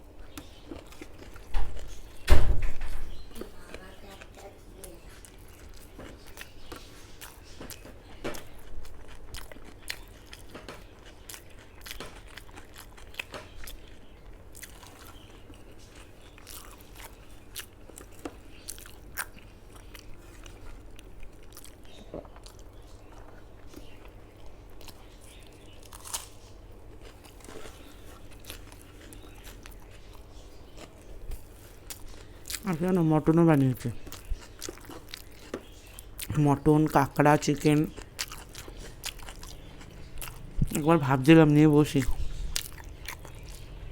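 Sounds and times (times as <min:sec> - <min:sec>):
person chewing and crunching: 0:00.0 - 0:02.2, 0:03.1 - 0:43.9.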